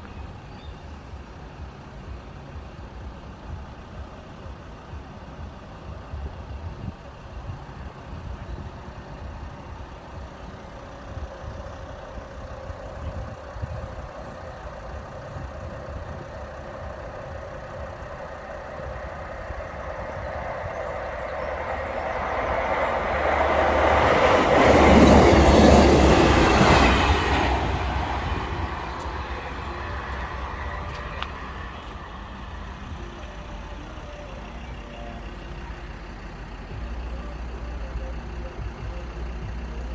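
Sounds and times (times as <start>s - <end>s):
diesel train passing: 0.0s - 39.9s.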